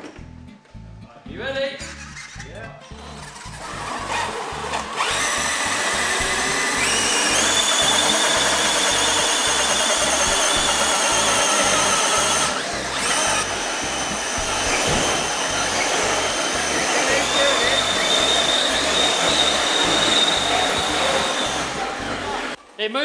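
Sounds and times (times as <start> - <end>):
electric motors whining: 3.0 - 22.6.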